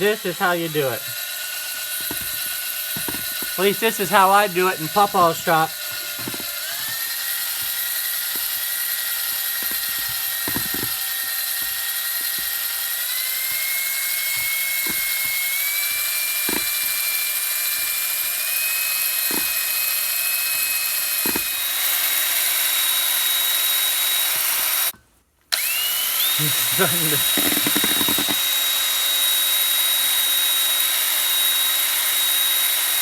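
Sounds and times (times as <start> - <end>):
electric drill motor whine: 0.0 - 33.0.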